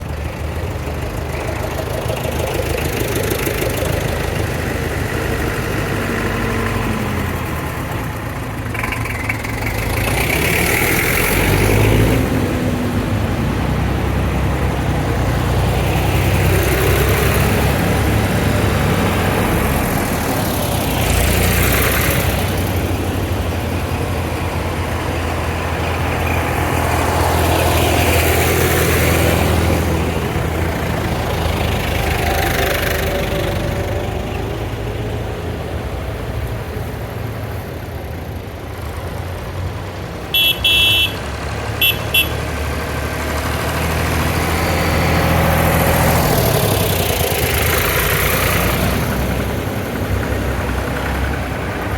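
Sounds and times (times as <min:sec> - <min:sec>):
tractor engines driving past: 0:00.0 - 0:51.9.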